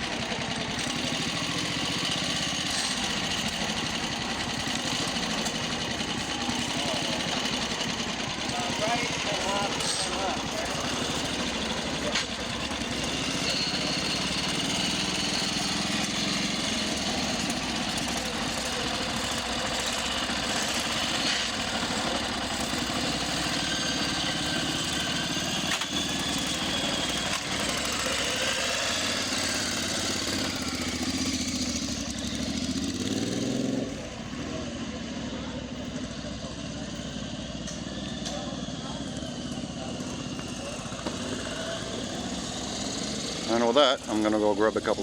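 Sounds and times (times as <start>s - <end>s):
motorcycle engine idling and revving: 0.0s - 45.0s.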